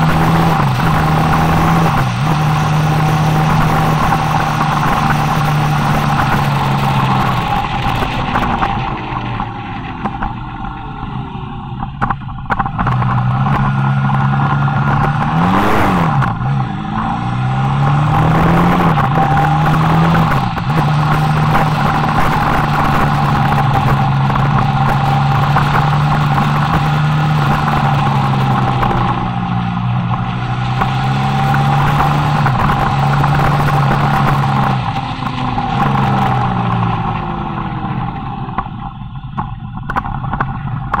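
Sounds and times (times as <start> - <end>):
motorcycle engine at speed: 0.0 - 41.0
rush of noise: 0.0 - 41.0.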